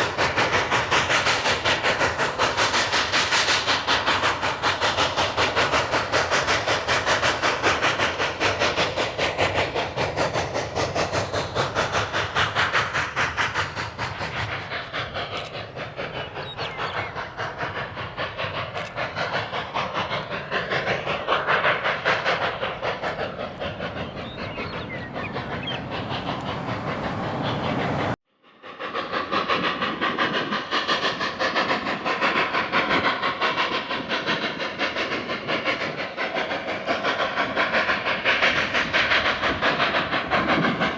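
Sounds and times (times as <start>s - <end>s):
steam hissing: 0.0s - 40.9s
steam train wheels and exhaust: 0.0s - 40.9s.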